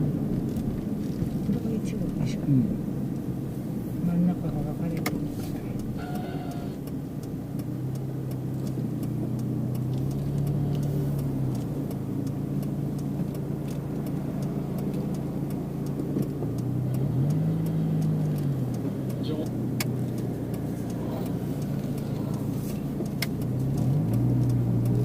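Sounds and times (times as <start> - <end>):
car engine hum from inside cabin: 0.0 - 25.0
faint regular ticking: 0.0 - 25.0
road noise: 0.0 - 25.0.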